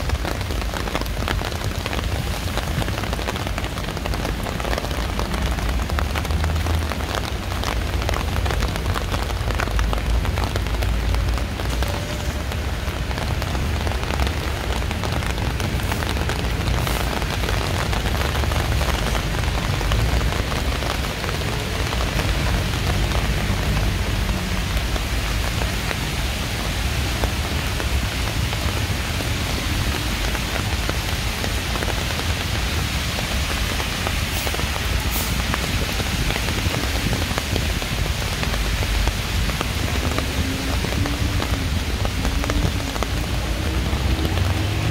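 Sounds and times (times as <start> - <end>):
heavy rain: 0.0 - 44.9
raindrops ticking: 0.0 - 44.9.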